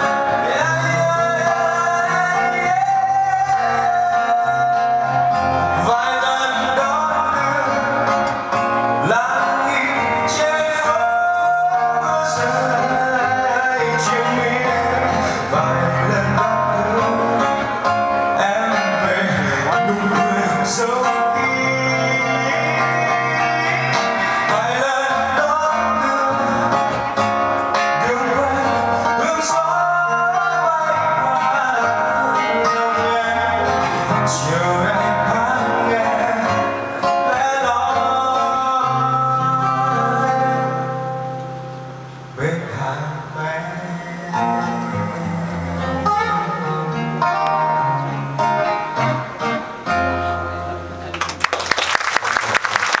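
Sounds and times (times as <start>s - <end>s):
person singing: 0.0s - 41.2s, 42.3s - 51.1s
live band playing guitar and drums: 0.0s - 53.0s.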